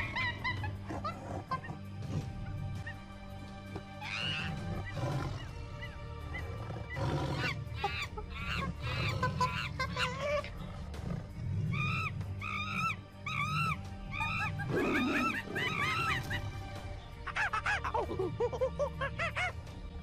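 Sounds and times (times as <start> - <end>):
shrill animal calls: 0.0 - 19.7
background music with low beat: 0.0 - 20.0.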